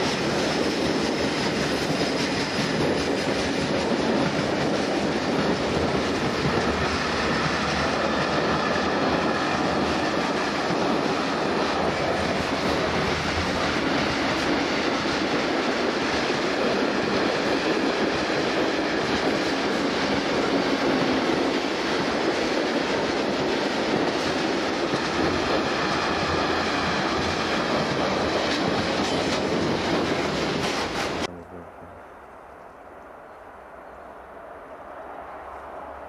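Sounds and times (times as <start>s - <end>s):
freight train rumbling past: 0.0s - 36.0s.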